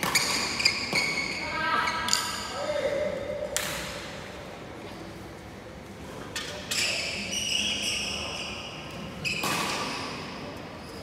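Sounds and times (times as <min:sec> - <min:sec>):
low hum of hall: 0:00.0 - 0:11.0.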